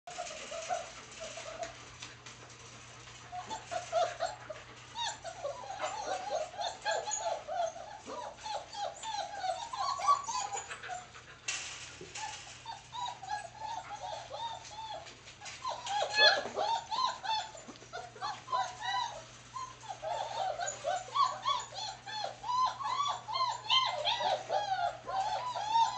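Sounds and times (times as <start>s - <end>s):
puppies whimpering and whining: 0.1s - 25.9s.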